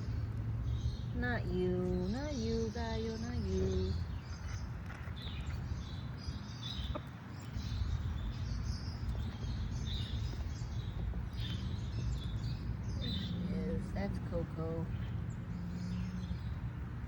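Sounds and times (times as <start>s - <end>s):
birds chirping: 0.0s - 17.0s
low steady rumble: 0.0s - 17.0s.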